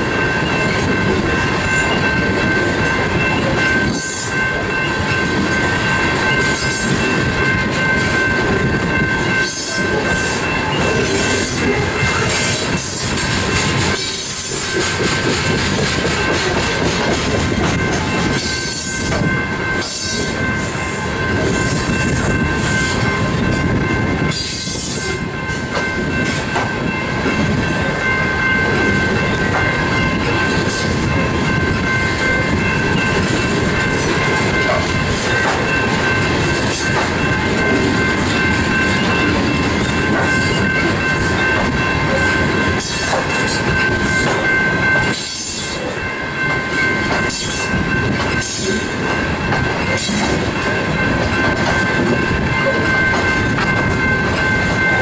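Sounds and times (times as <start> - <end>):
train cars rolling: 0.0 - 55.0.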